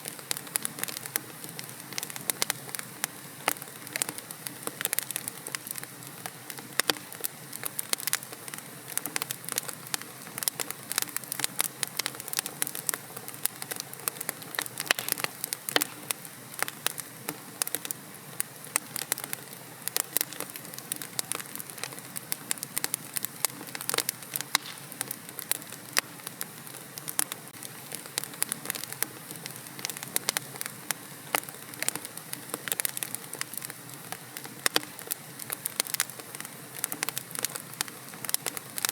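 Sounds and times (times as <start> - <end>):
fire hissing: 0.0 - 38.9
wood fire crackling: 0.0 - 38.9.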